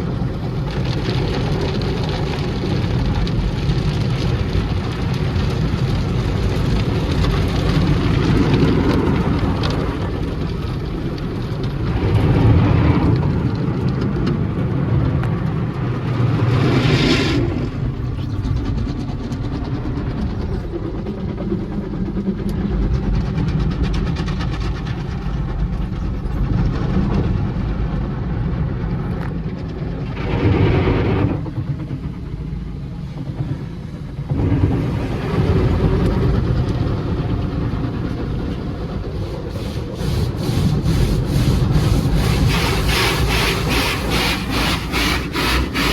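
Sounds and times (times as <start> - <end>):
car wash water spray rumble: 0.0 - 45.9.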